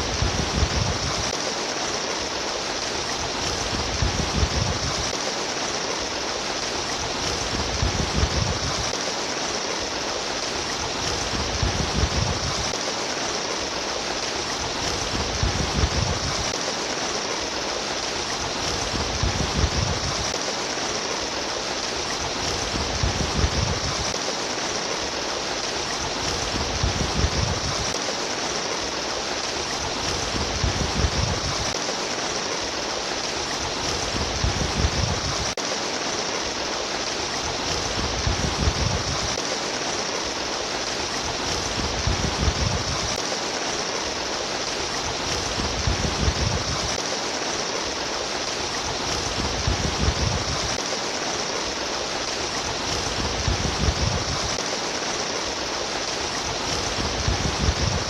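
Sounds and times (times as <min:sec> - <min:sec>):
low water gurgle: 0:00.0 - 0:58.0.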